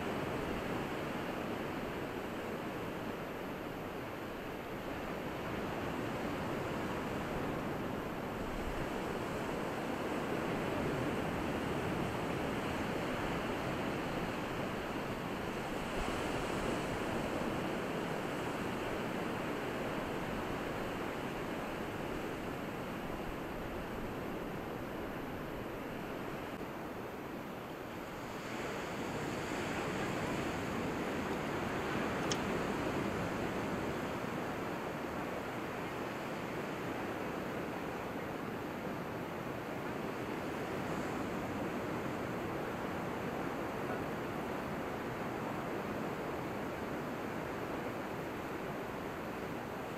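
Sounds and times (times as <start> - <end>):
surf on shore: 0.0 - 49.9.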